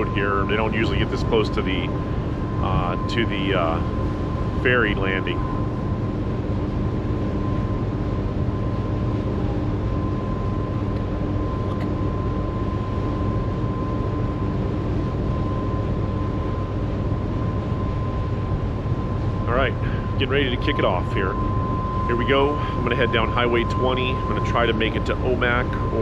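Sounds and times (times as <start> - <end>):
ferry engines droning: 0.0 - 16.0, 17.4 - 26.0.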